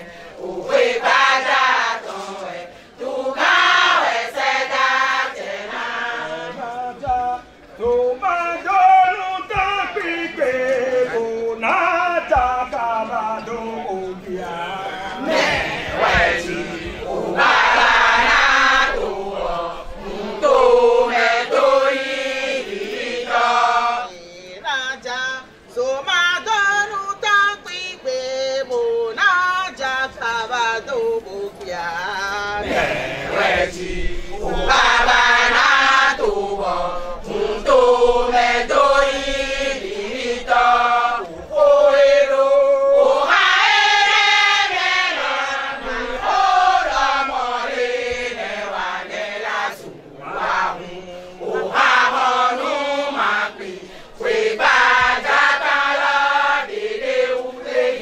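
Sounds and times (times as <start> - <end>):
women singing chant in chorus: 0.0 - 58.0.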